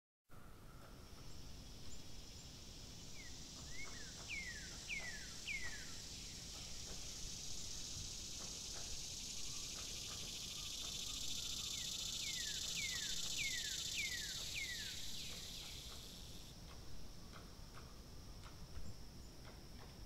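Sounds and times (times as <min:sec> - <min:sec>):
high insect trill: 0:00.5 - 0:20.0.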